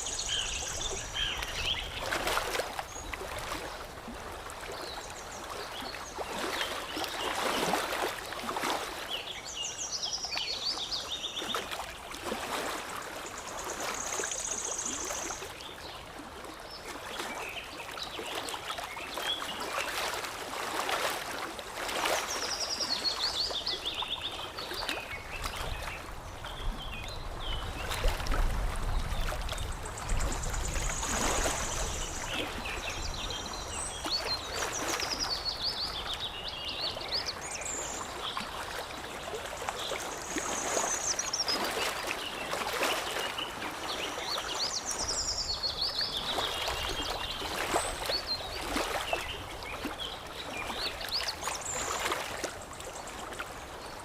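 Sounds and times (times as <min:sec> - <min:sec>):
water lapping and trickling: 0:00.0 - 0:54.0.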